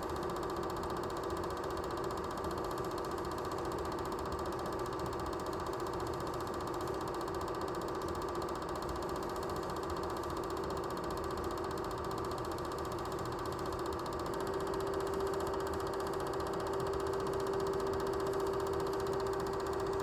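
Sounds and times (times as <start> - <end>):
film projector motor whir: 0.0 - 20.0.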